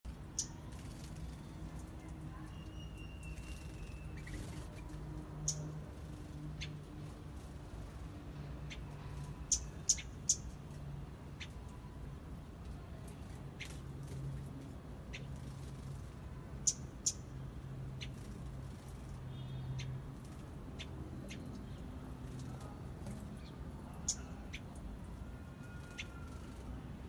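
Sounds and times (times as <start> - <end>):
small birds chirping: 0.1 - 12.0, 13.0 - 26.8.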